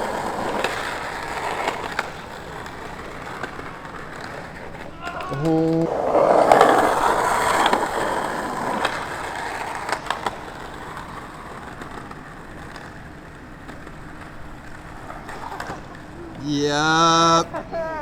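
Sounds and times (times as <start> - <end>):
skateboard grinding: 0.0 - 16.3.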